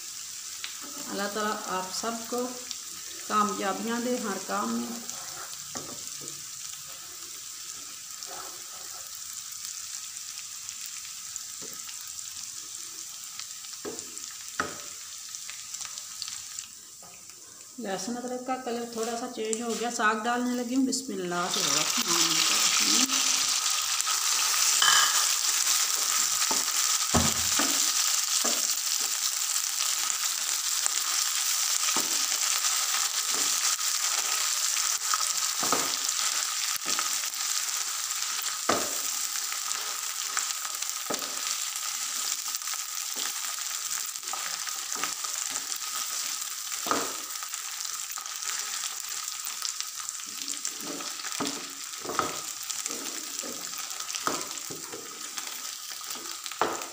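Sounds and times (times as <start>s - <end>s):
greens sizzling in hot fat: 0.0s - 56.9s.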